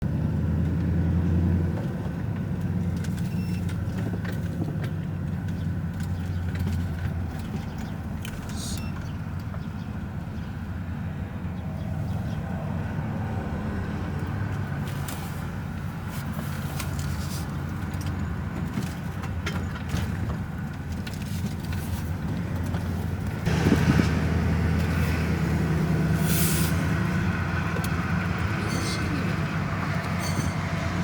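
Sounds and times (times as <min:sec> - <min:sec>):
car engine humming: 0:00.0 - 0:31.0.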